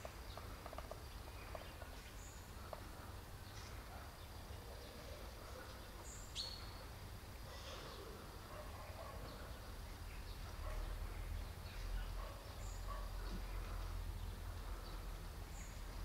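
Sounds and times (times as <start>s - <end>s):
bird chirping: 0.0s - 7.0s, 7.6s - 16.0s.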